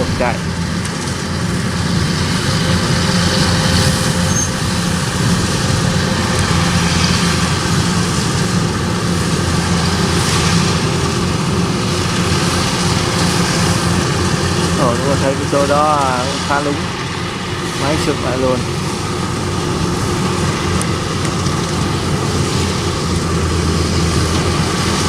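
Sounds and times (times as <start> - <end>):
combine harvester engine running: 0.0 - 25.0.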